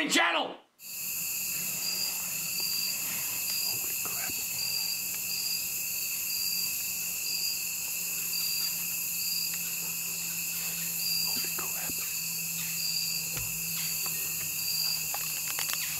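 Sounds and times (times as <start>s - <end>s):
high pulsing insect call: 0.8s - 15.9s
insect chorus: 0.8s - 15.9s.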